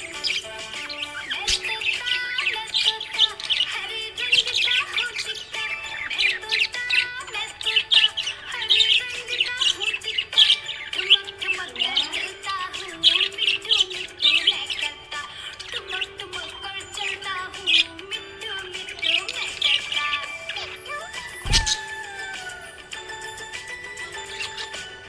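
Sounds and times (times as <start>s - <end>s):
background music with held notes: 0.0s - 25.0s
parrots chirping and chattering: 0.0s - 25.0s.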